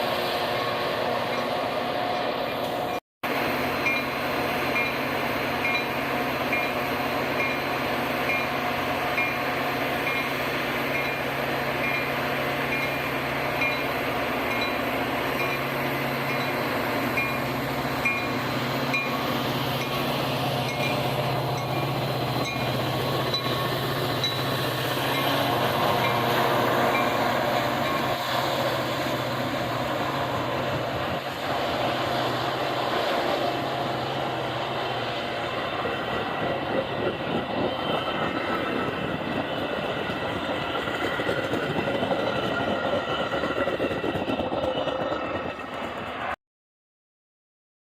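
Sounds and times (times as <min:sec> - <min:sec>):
train engine hum: 0:00.0 - 0:46.4
train wheels clattering on rails: 0:03.7 - 0:46.4.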